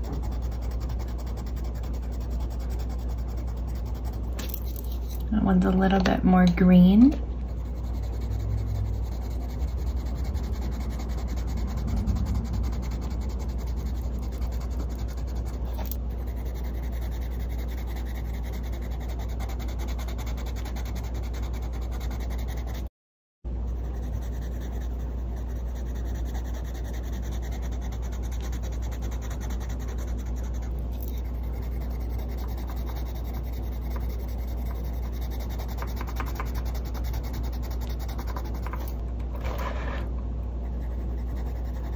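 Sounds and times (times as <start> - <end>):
pencils shading on paper: 0.0 - 6.7, 7.5 - 22.9, 23.7 - 40.0, 40.6 - 41.9
low hum: 0.0 - 22.9, 23.5 - 41.9.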